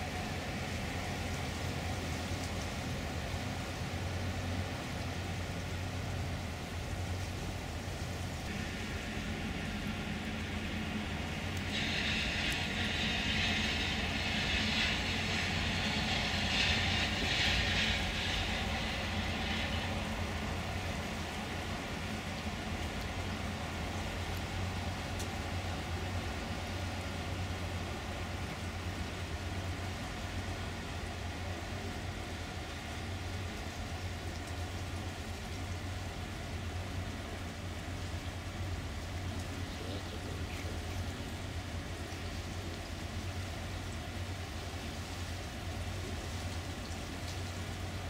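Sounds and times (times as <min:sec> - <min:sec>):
distant train wheels rushing: 0:00.0 - 0:48.0
steady low hum: 0:00.0 - 0:48.0.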